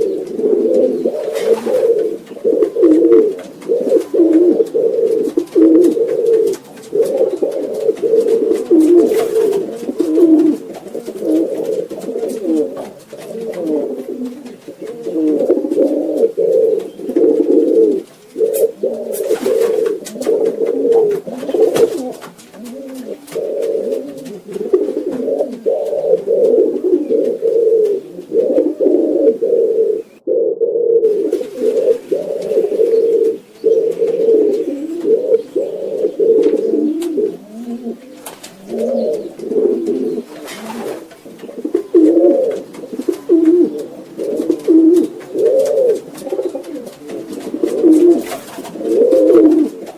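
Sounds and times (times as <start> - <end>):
pigeons cooing: 0.0 - 49.9.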